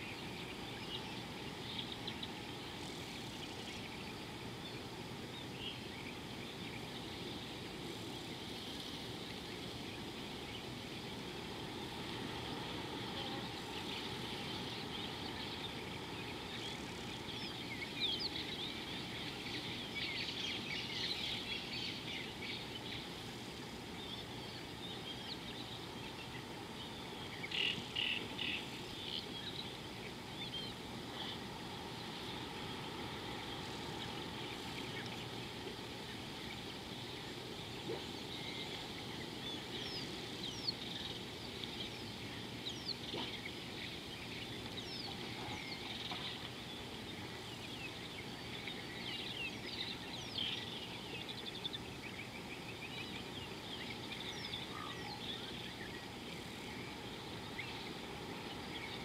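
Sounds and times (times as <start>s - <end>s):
birds chirping: 0.0s - 59.0s
outdoor background hiss: 0.0s - 59.0s.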